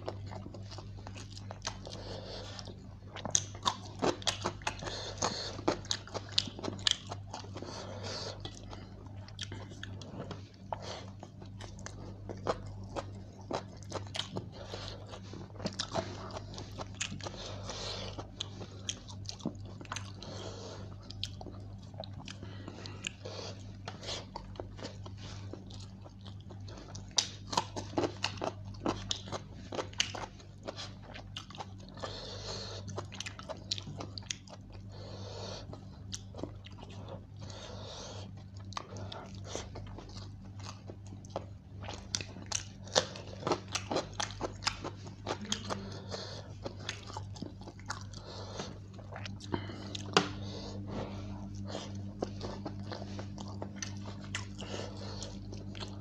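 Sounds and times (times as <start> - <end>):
person chewing: 0.0 - 56.0
steady low hum: 0.0 - 56.0.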